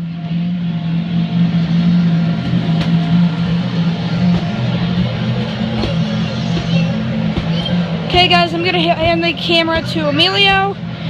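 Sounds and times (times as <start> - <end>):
inflation blower humming: 0.0 - 11.0.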